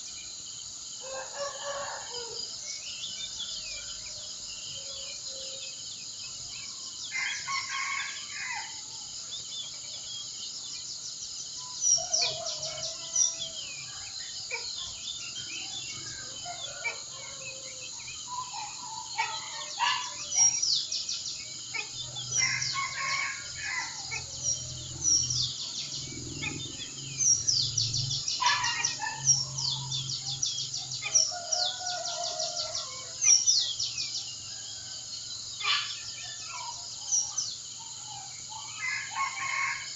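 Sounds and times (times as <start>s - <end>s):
birds chirping and twittering: 0.0s - 39.9s
high insect hum: 0.0s - 39.9s.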